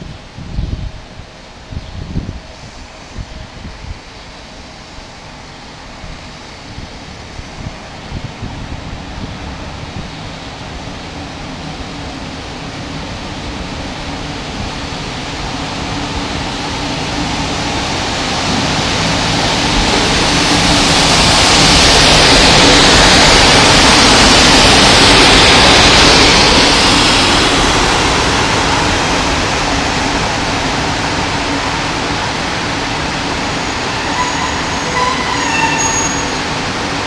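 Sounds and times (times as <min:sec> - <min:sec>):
electric locomotive rumble and hiss: 0:00.0 - 0:37.0.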